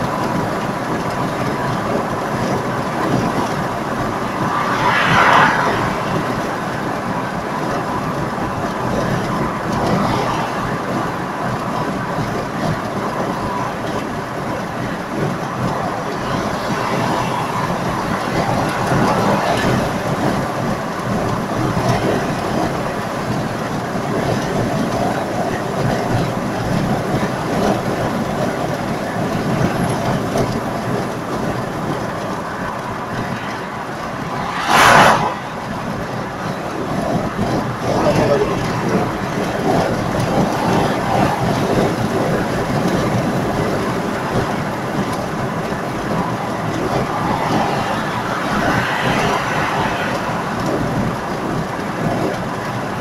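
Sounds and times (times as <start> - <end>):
car road and tyre noise: 0.0 - 53.0.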